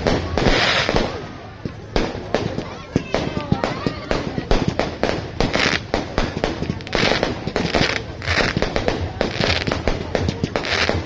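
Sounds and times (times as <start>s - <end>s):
fireworks bangs and crackles: 0.0s - 11.0s
fireworks hissing: 0.0s - 11.0s.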